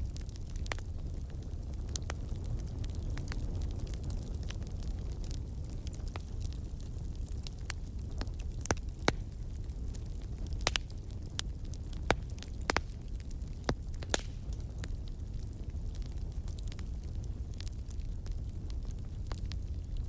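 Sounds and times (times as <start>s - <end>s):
bonfire flames rumbling: 0.0s - 20.0s
burning wood popping and crackling: 0.0s - 20.0s.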